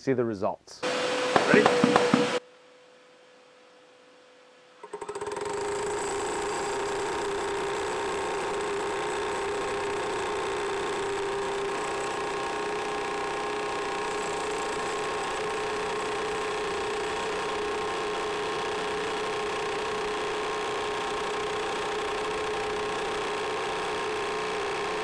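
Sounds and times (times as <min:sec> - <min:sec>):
jackhammers hammering concrete: 0:00.8 - 0:02.4, 0:04.8 - 0:25.0.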